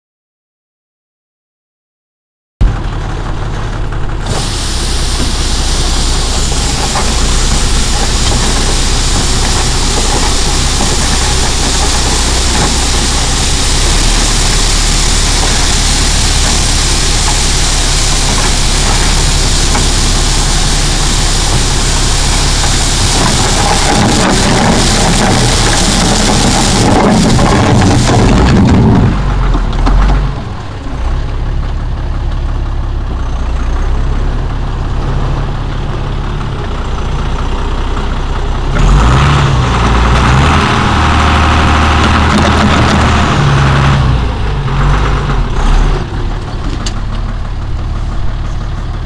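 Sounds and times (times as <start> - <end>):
tractor engine running: 2.6 - 49.0.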